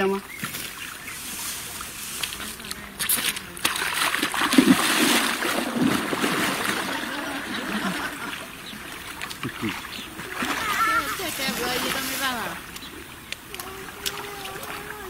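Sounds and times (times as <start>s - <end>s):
water splashing and churning: 0.0s - 15.0s.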